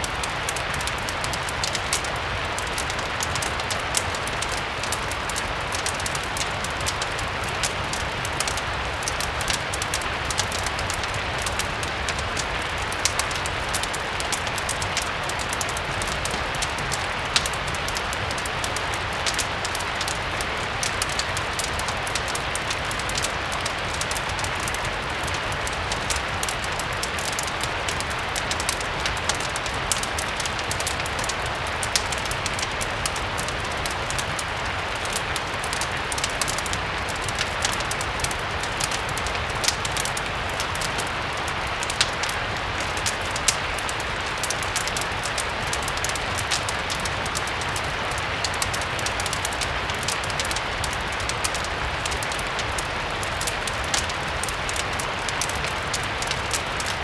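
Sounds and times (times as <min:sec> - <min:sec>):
crackling wood fire: 0:00.0 - 0:57.0
steady rain: 0:00.0 - 0:57.0.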